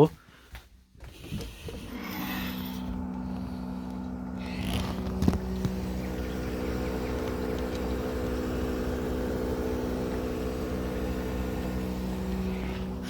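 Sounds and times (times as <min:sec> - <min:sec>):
air conditioner humming: 0:01.2 - 0:13.0.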